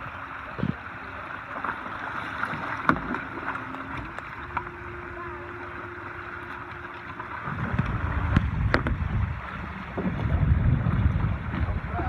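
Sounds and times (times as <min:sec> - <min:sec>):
faint steady hum: 0:00.0 - 0:12.0
water sloshing and splashing: 0:00.0 - 0:12.0.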